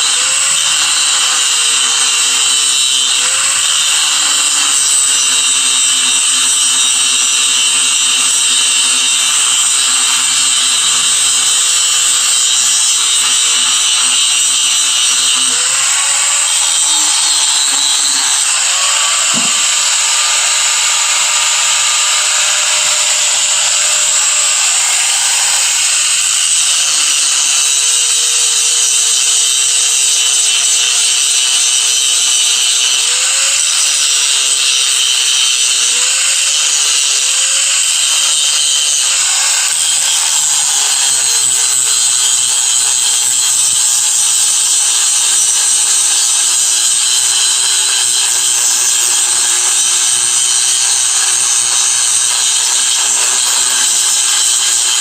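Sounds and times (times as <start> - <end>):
electric grinder grinding: 0.0 - 55.0.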